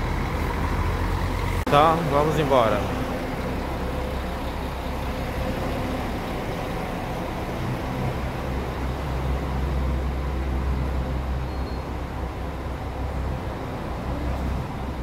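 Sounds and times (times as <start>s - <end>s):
bus engines and road traffic rumble: 0.0s - 15.0s
faint engine hum: 0.0s - 15.0s.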